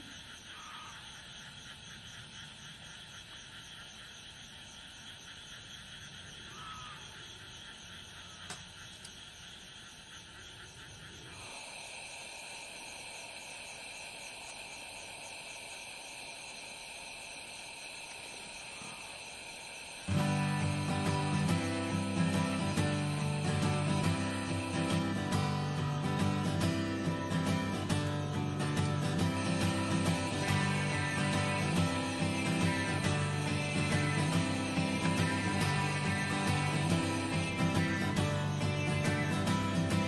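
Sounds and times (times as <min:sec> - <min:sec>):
night insects chirping: 0:00.0 - 0:40.0.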